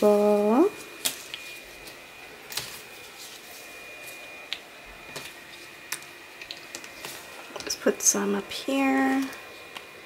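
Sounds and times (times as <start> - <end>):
thin high whine: 0.0 - 10.0.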